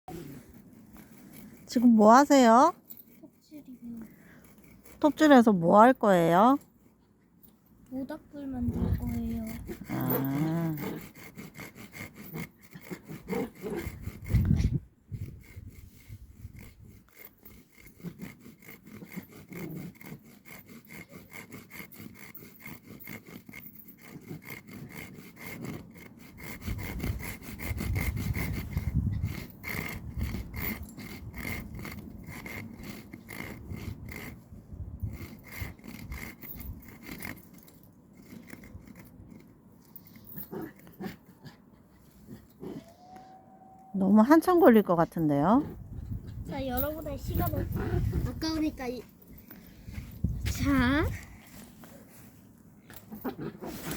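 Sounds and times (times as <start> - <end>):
hand saw cutting wood: 0.1 - 41.6, 44.0 - 52.2.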